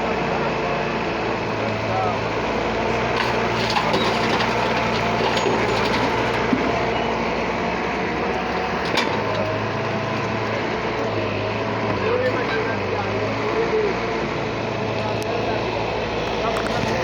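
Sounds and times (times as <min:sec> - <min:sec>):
excavator running: 0:00.0 - 0:17.0.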